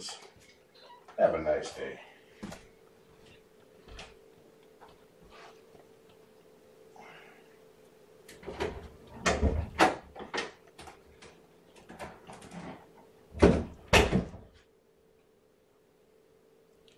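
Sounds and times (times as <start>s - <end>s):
steady background hum: 0.0s - 16.9s.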